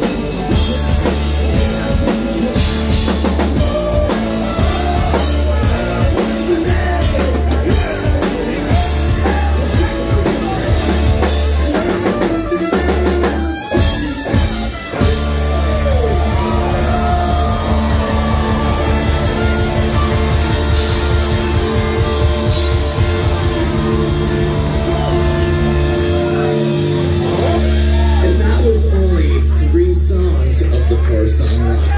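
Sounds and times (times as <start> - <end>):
ska-punk band playing live: 0.0 - 31.4.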